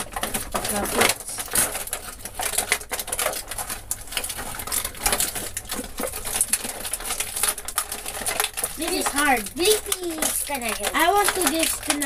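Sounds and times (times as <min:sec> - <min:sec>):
plastic packaging crinkling: 0:00.0 - 0:12.0
small plastic clicks: 0:00.0 - 0:12.0.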